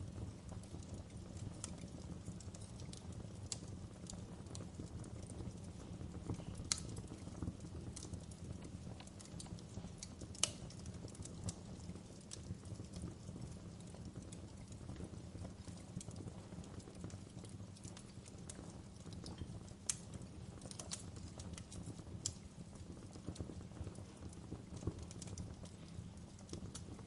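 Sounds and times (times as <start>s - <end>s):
campfire crackling and popping: 0.0s - 27.0s
low rumble of fire: 0.0s - 27.0s.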